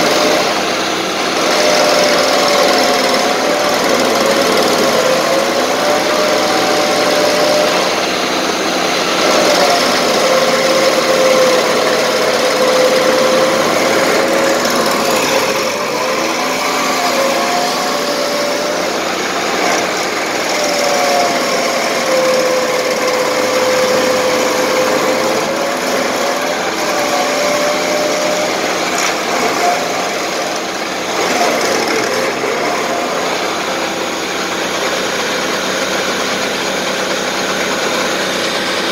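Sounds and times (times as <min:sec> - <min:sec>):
chipping roar of cutter wheel: 0:00.0 - 0:38.9
stump grinder engine under load: 0:00.0 - 0:38.9.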